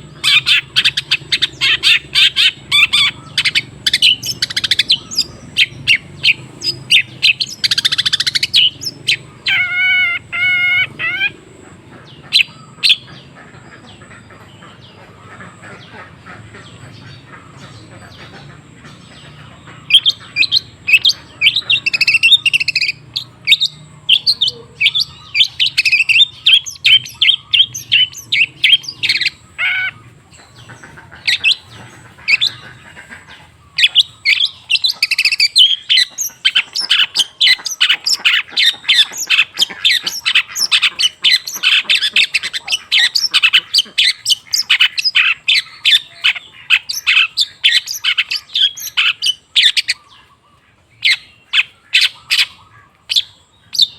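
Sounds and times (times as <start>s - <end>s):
bird singing chattering notes: 0.0s - 53.9s.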